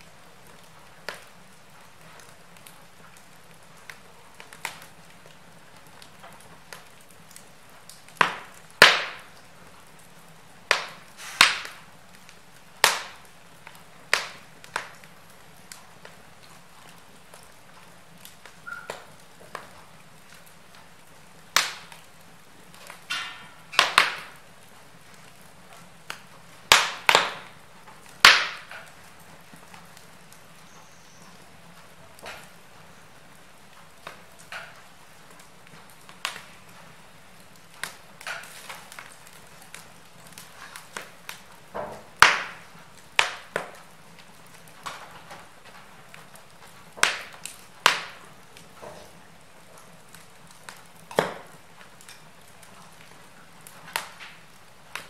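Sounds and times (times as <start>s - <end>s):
low fire hiss: 0.0s - 55.0s
wood logs crackling and popping: 0.0s - 55.0s.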